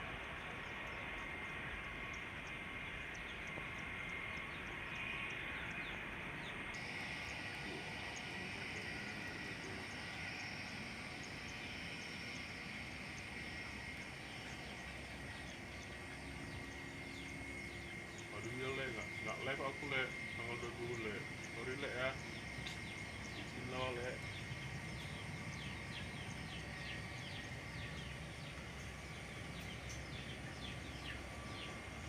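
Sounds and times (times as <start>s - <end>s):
faint chirps: 0.0s - 32.0s
thin high hum: 0.0s - 32.0s.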